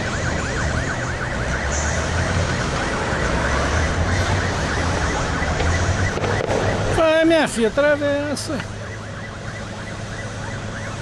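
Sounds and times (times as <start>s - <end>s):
street noise: 0.0s - 11.0s
vehicle siren yelping: 0.0s - 11.0s.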